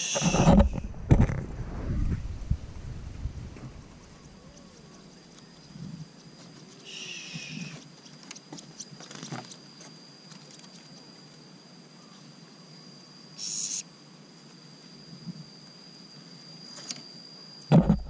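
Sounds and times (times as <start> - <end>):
steady high-pitched tone: 0.0 - 18.0.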